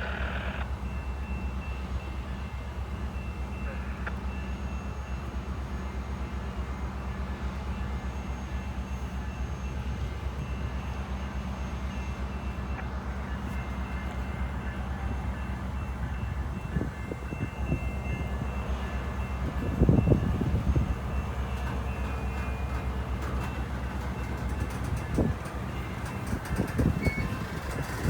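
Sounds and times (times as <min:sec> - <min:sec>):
diesel engines rumbling: 0:00.0 - 0:28.0.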